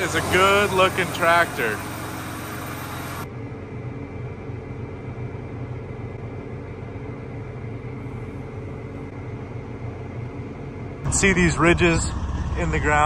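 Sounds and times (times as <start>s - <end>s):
diesel tractor engine drone: 0.0s - 13.0s.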